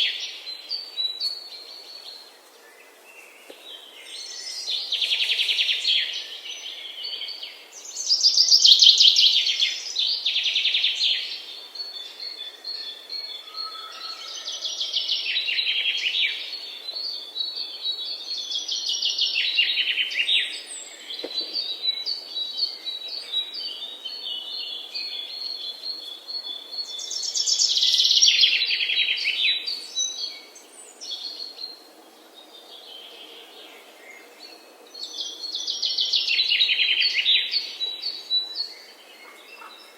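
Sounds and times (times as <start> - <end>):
songbirds chirping trills: 0.0 - 39.9.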